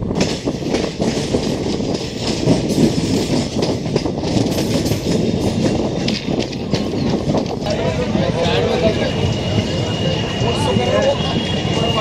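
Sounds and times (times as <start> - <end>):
train rumble and rushing: 0.0 - 12.0
wheels clattering over rail joints: 0.0 - 12.0.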